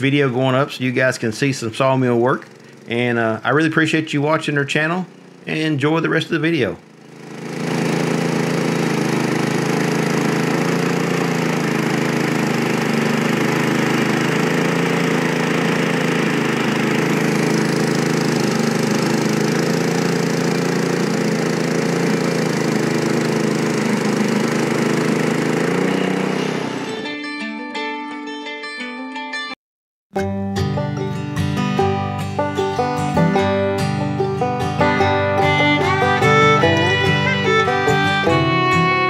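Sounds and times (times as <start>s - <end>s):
engine humming: 0.0s - 27.1s, 31.0s - 39.0s.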